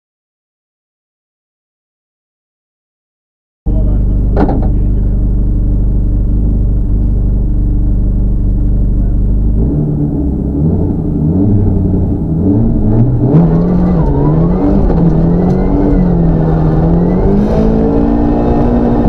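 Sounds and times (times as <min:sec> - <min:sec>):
rally car engine revving: 0:03.7 - 0:19.0.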